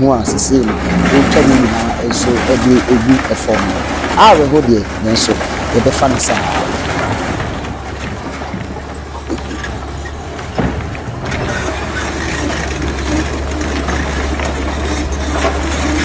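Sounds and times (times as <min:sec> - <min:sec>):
heavy engine rumbling: 0:00.0 - 0:16.0.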